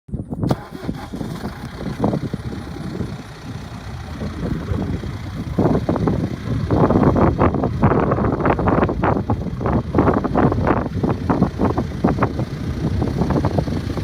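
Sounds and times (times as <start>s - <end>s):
tractor diesel engine rumbling: 0.4s - 14.0s.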